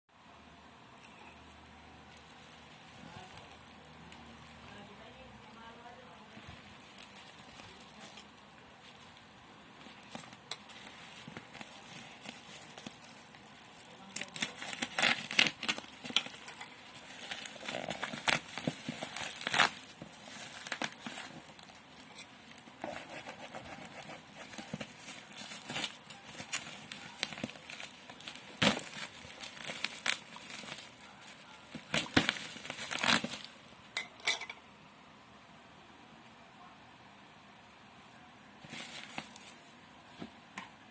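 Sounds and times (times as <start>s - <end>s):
packaging crinkling and rustling: 2.0s - 33.7s, 38.6s - 39.8s.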